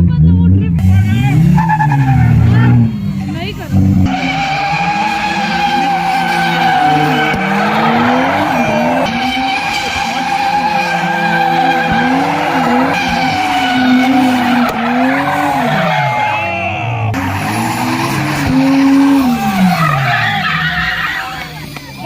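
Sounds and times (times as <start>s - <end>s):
car engine revving: 0.0s - 22.0s
tyres squealing: 0.8s - 22.0s.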